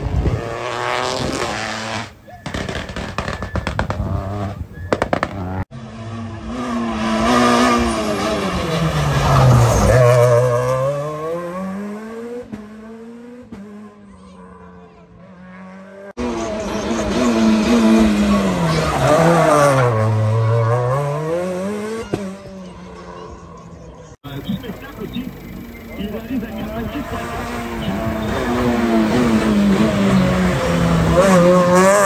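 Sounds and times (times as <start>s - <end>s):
rally car engine: 0.0s - 32.0s
second loud rally engine: 0.0s - 32.0s.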